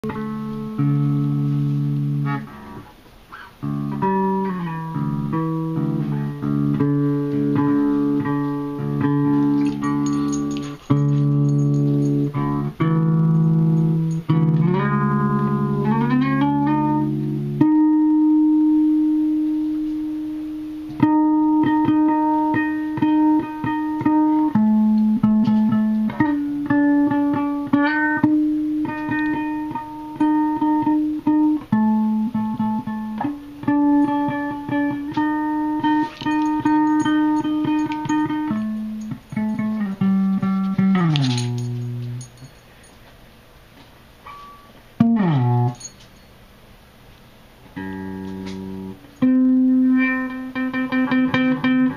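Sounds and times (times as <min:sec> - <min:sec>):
electric guitar playing: 0:00.0 - 0:42.4, 0:44.3 - 0:46.0, 0:47.6 - 0:51.9.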